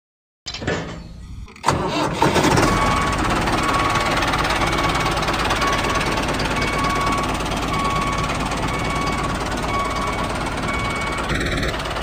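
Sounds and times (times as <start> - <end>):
tractor engine starting and running: 0.5 - 12.0.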